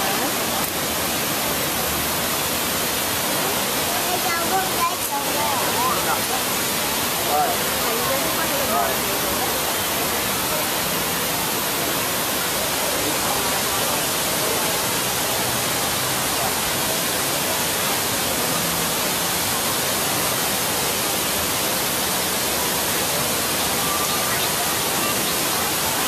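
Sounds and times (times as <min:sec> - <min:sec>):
rushing of falling water: 0:00.0 - 0:26.0.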